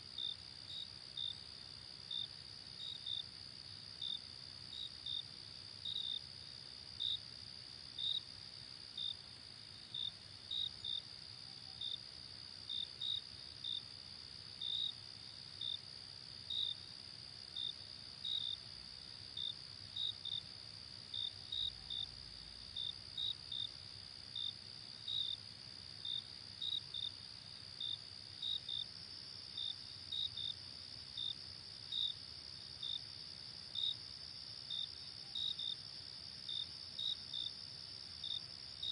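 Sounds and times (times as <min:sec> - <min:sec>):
loud cricket chirps: 0:00.1 - 0:38.9.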